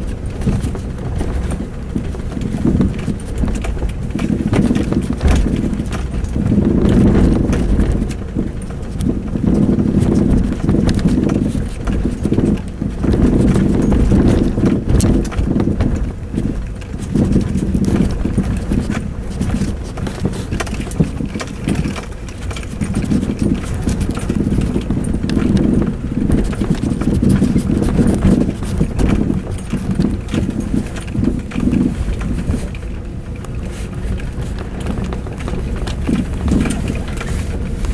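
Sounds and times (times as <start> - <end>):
suspension knocking over bumps: 0.0 - 37.9
tyre and road rumble: 0.0 - 37.9.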